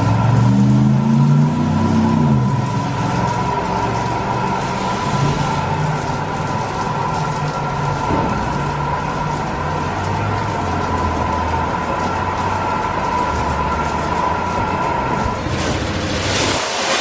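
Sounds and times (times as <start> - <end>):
car wash machinery whine and hum: 0.0 - 17.0
spraying water hiss: 0.0 - 17.0.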